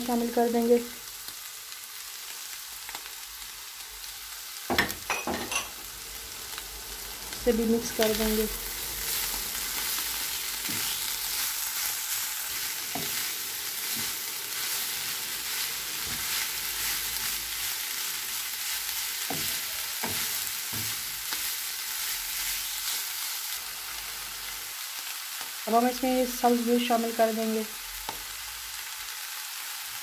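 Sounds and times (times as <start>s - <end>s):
meat and onions sizzling in pan: 0.0s - 30.0s.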